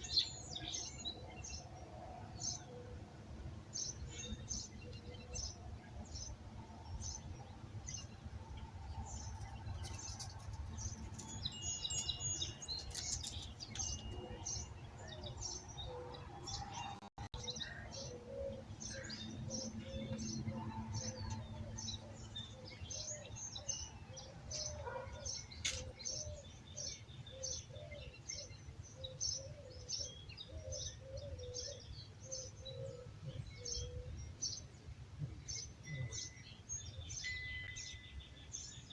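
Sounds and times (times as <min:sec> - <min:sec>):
birds chirping in dawn chorus: 0:00.0 - 0:03.1, 0:03.7 - 0:34.8.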